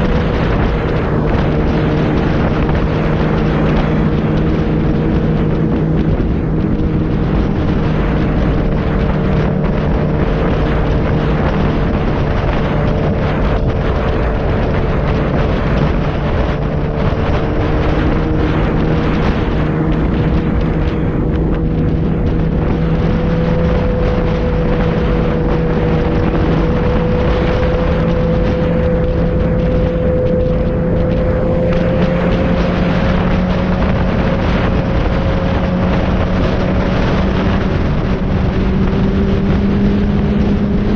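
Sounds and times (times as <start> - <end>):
motorcycle engine cruising: 0.0 - 40.9
wind and road noise: 0.0 - 40.9.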